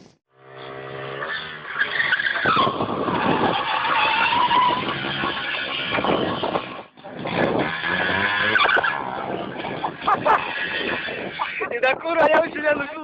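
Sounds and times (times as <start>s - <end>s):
motorcycle running: 0.3s - 12.4s
high-pitched squealing whine: 0.4s - 12.3s.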